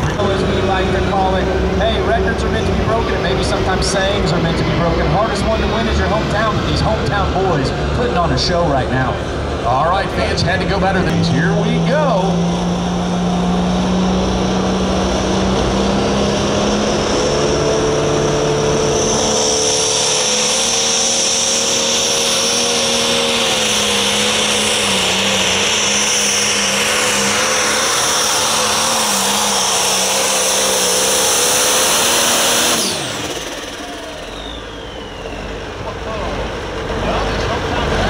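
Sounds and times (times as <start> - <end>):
diesel engine at full throttle: 0.0 - 38.0.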